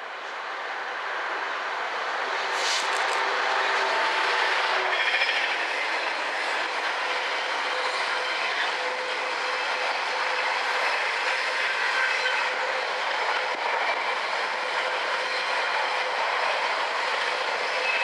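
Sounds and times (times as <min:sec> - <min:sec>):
diesel locomotive engine: 0:00.0 - 0:18.0.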